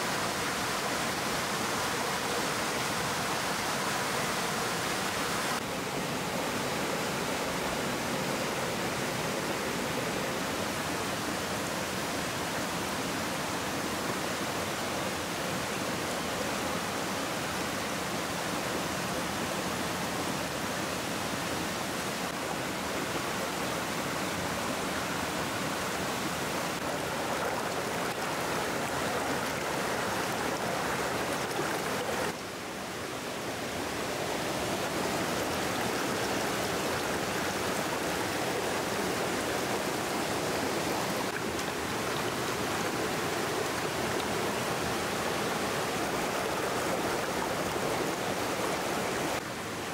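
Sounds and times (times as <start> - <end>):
stream rushing over rapids: 0.0 - 49.9.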